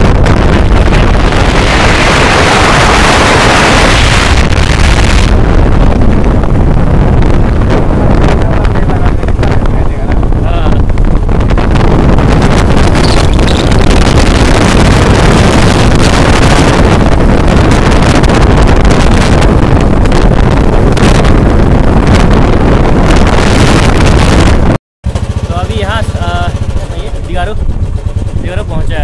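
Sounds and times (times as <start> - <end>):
rush of motorbike ride: 0.0 - 29.0
wind buffeting microphone: 0.0 - 29.0.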